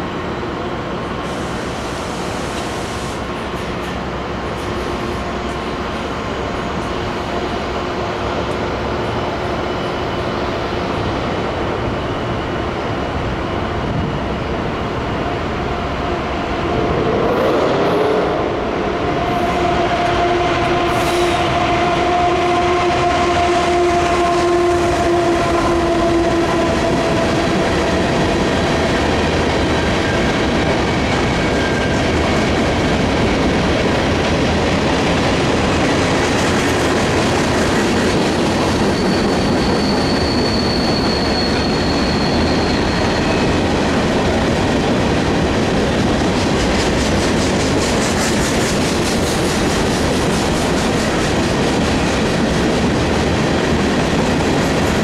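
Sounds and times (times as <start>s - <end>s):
diesel locomotive rumbling: 0.0s - 55.0s.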